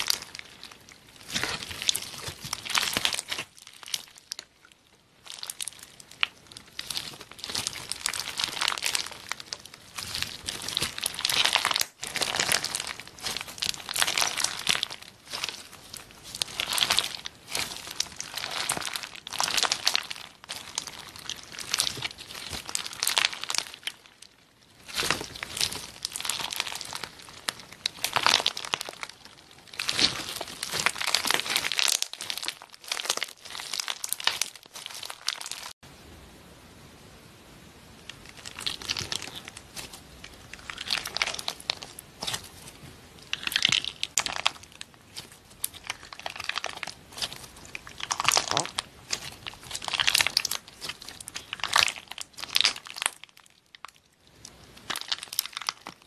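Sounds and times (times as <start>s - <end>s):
slime squelching and crackling: 0.0s - 35.8s, 38.0s - 56.0s.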